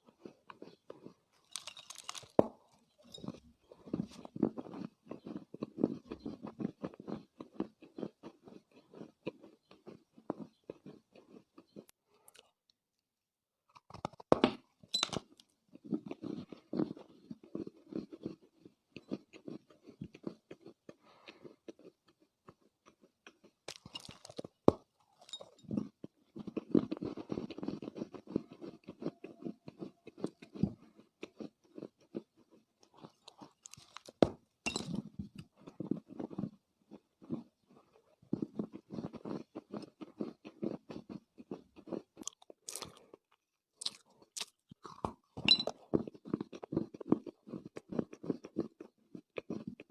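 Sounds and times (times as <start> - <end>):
clay being chewed crunching: 0.0 - 12.6, 13.7 - 49.9.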